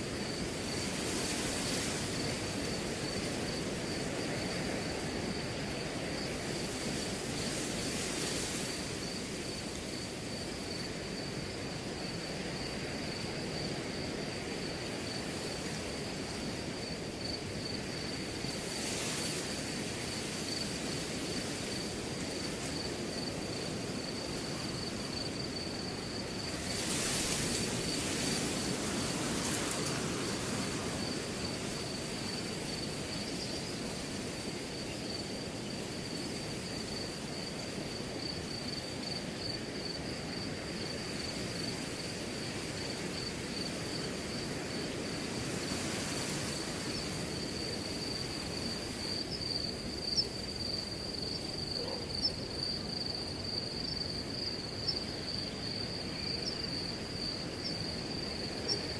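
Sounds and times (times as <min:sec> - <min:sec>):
high cricket trill: 0:00.0 - 0:58.9
wind blowing through grass: 0:00.0 - 0:58.9.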